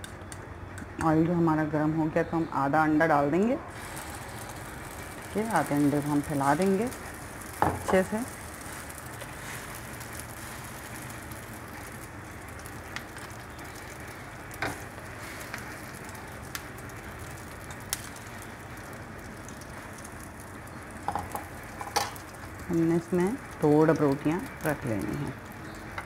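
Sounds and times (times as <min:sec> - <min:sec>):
egg sizzling in hot oil: 0:03.7 - 0:26.0.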